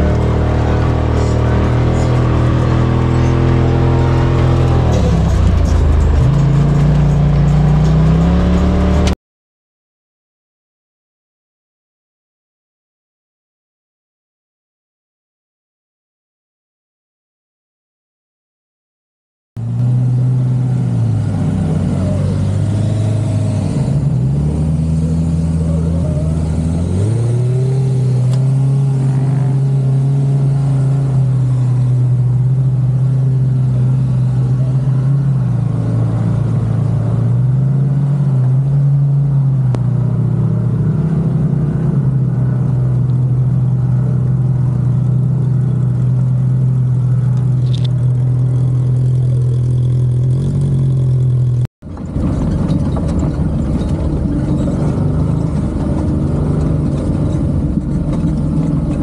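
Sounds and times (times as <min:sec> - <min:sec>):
vehicle engine revving: 0:00.0 - 0:09.2, 0:19.6 - 0:59.0.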